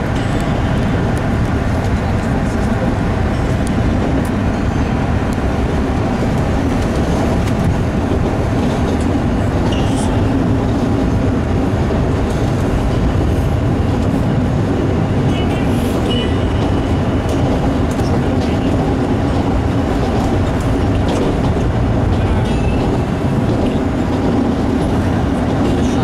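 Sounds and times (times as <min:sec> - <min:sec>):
subway car wheels rumbling on rails: 0:00.0 - 0:26.0.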